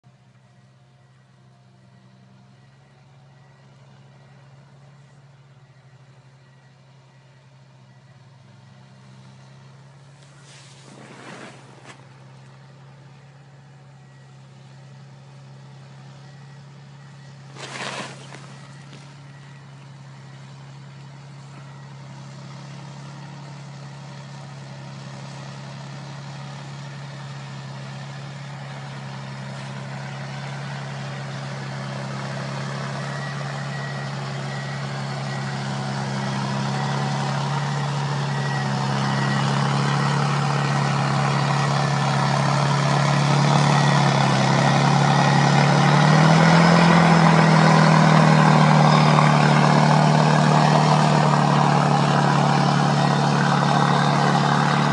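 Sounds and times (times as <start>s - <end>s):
diesel engine drone: 0.0s - 54.9s.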